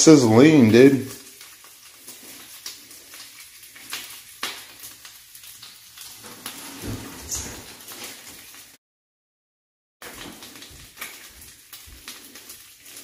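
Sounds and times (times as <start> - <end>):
food sizzling in oven: 0.0 - 8.8, 10.0 - 13.0.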